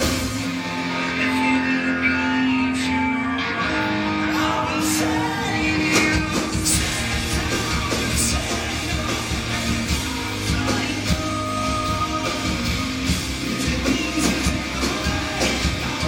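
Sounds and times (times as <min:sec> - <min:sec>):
live rock band: 0:00.0 - 0:16.0
man singing lead vocal: 0:00.0 - 0:16.0.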